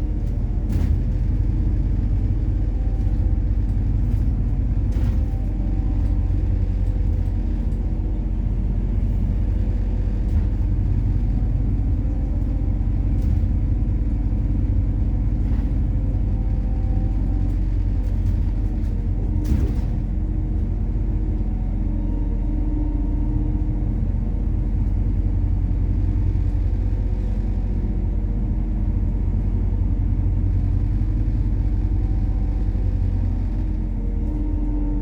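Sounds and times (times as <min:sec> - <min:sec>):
bus engine drone: 0:00.0 - 0:35.0
road rumble: 0:00.0 - 0:35.0.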